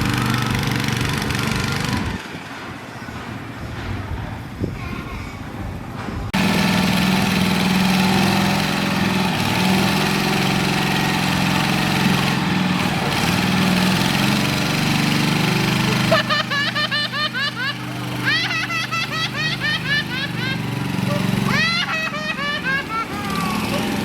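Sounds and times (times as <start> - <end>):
small petrol engine running: 0.0 - 2.4, 6.4 - 24.0.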